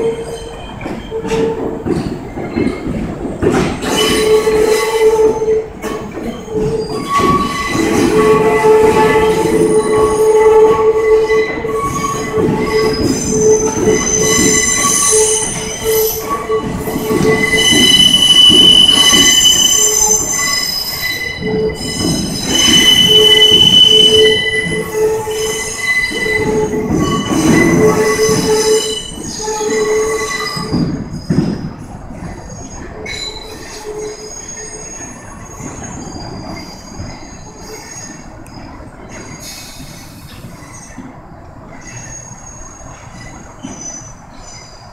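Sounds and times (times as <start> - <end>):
train low rumble: 0.0 - 44.9
train wheels squealing on rails: 0.0 - 44.9.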